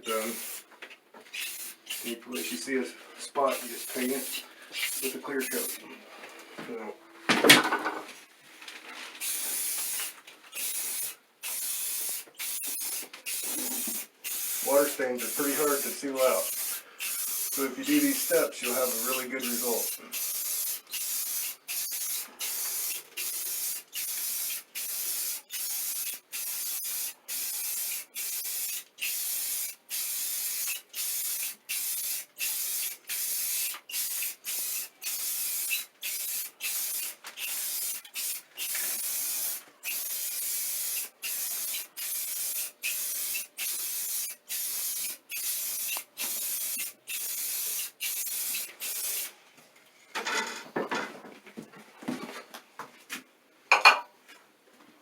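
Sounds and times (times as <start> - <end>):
aerosol spray hissing bursts: 0.1 - 0.7, 1.3 - 2.7, 3.5 - 5.8, 9.2 - 49.3.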